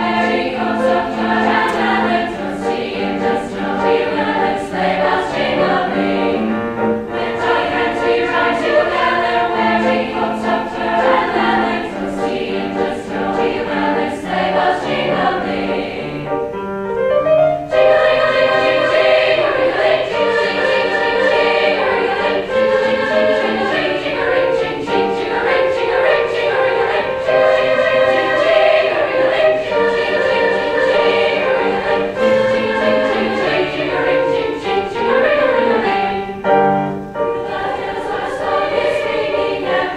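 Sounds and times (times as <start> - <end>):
choir singing with music: 0.0 - 39.9.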